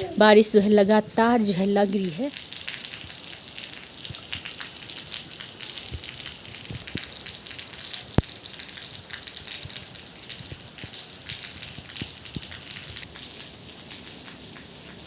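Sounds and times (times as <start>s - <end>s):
steady rain hiss: 0.0s - 15.0s
raindrops knocking: 2.0s - 15.0s.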